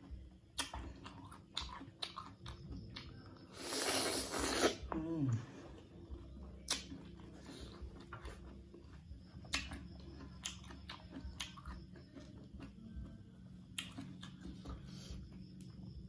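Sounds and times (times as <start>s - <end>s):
crunching raw fruit: 0.0s - 16.0s.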